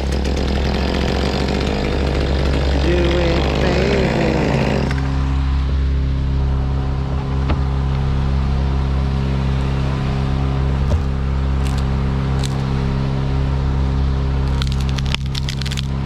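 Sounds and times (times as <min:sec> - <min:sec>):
machine engine running: 0:00.0 - 0:13.6.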